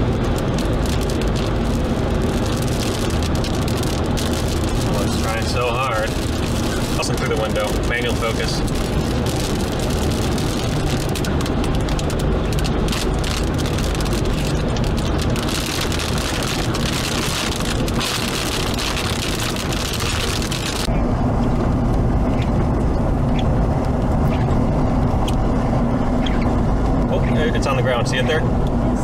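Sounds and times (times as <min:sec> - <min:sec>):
rain ticks: 0:00.0 - 0:20.9, 0:21.8 - 0:25.6
car road noise and engine hum: 0:00.0 - 0:29.0
low vehicle rumble: 0:00.0 - 0:29.0
wind rushing over microphone: 0:00.0 - 0:29.0.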